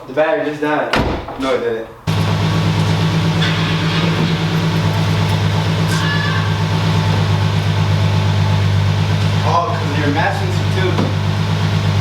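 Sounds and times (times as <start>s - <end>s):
car engine idling: 2.1s - 12.0s.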